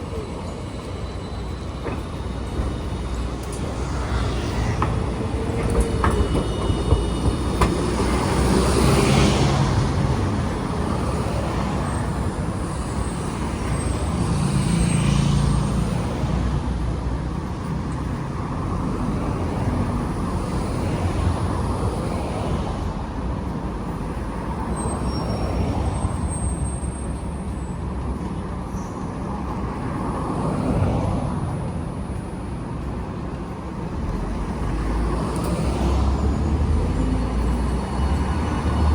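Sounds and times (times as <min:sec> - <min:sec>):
faint high-pitched tram squeals: 0:00.0 - 0:32.9, 0:33.5 - 0:38.9
rumble of passing vehicles: 0:00.0 - 0:38.9.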